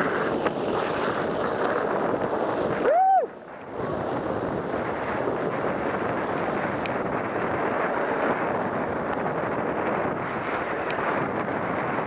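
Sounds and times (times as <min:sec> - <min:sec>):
wheels hissing on wet asphalt: 0:00.0 - 0:12.0
wind on microphone: 0:00.0 - 0:12.0.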